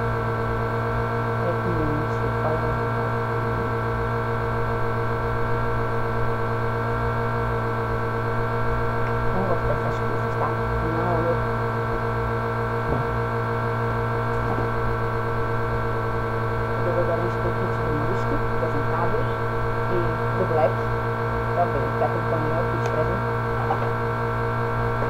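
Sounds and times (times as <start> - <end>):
electric fan humming: 0.0 - 25.0.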